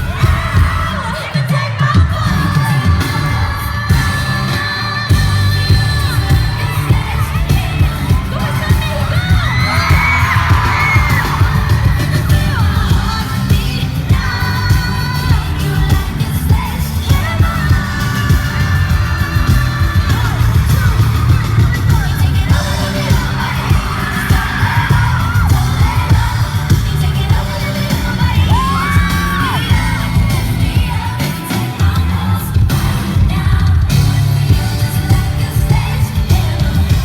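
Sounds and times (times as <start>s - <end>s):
crowd screaming and singing along: 0.0s - 37.0s
group singing live: 0.0s - 37.0s
distorted bass beat: 1.9s - 37.0s.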